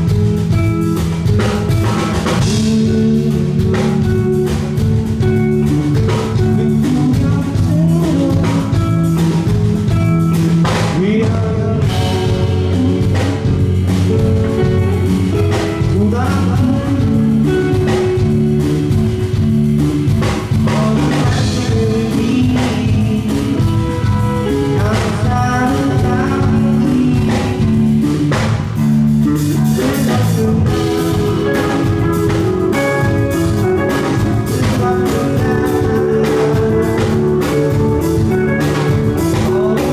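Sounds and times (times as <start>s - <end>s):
bass and drum kit: 0.0s - 39.9s
electric guitar: 0.0s - 39.9s
person singing: 1.8s - 39.9s.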